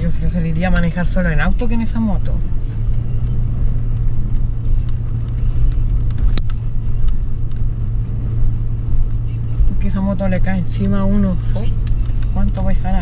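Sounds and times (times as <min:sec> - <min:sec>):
car engine driving: 0:00.0 - 0:13.0.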